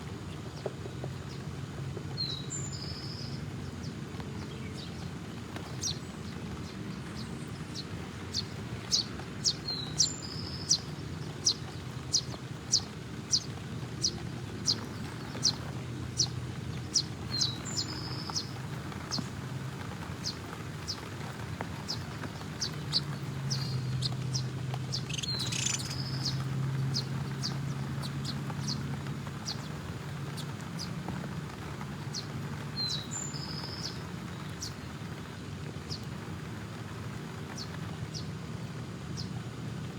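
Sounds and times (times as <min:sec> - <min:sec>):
low background rumble: 0:00.0 - 0:39.9
small birds chirping: 0:00.1 - 0:39.9.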